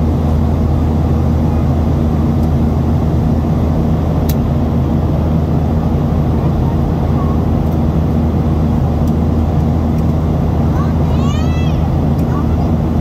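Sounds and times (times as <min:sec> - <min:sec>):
airplane cabin drone: 0:00.0 - 0:13.0
jet engines humming: 0:00.0 - 0:13.0.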